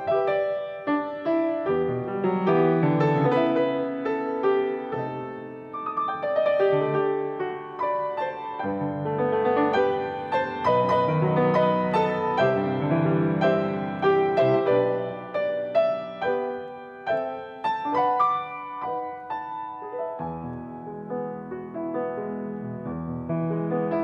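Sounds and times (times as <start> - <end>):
piano playing: 0.0 - 24.0.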